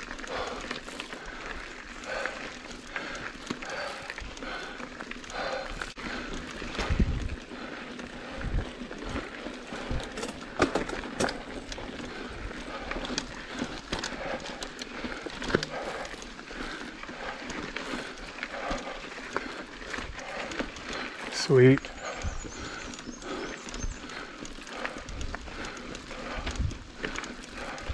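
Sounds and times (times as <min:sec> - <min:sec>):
bike knocking and rattling: 0:00.0 - 0:27.9
bike tyres rolling on dirt: 0:00.0 - 0:27.9.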